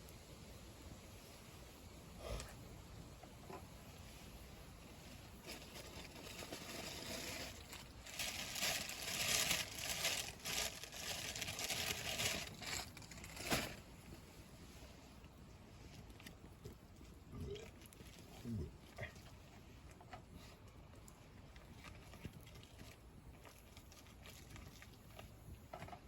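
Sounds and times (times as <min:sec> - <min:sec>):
rustling and crinkling: 0:02.2 - 0:26.0.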